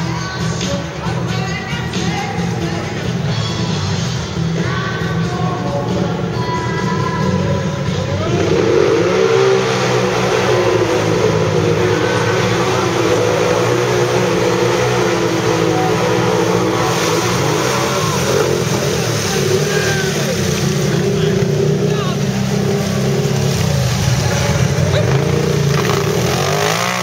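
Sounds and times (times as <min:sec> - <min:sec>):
atv engines revving: 0:00.0 - 0:27.0.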